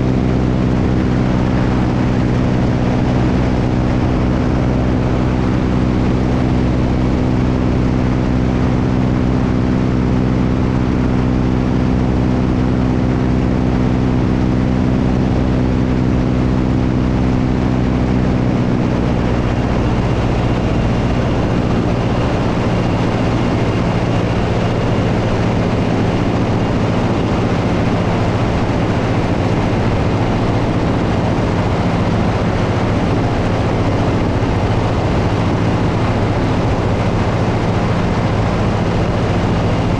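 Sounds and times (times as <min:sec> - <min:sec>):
propeller airplane engine: 0:00.0 - 0:39.9
wind on microphone: 0:00.0 - 0:39.9.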